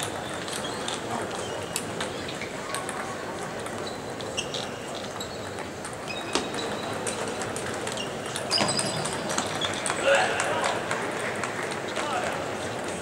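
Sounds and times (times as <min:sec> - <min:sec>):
table tennis ball clicking: 0:00.0 - 0:11.8
balls from other tables: 0:00.0 - 0:13.0
hall hubbub: 0:00.0 - 0:13.0.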